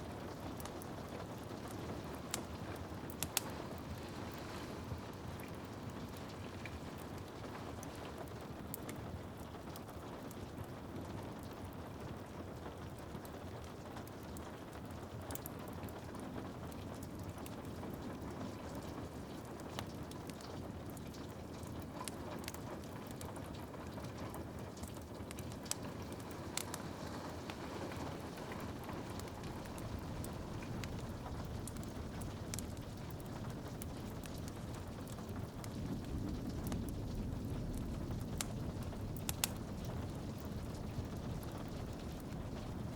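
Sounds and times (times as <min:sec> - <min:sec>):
rain hiss and patter: 0:00.0 - 0:42.9
wood fire crackling and popping: 0:00.0 - 0:42.9.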